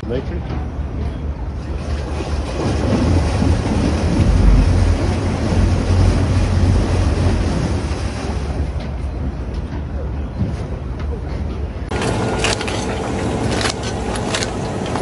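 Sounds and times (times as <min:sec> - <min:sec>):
low rumble: 0:00.0 - 0:14.5
propeller churning water: 0:00.0 - 0:15.0.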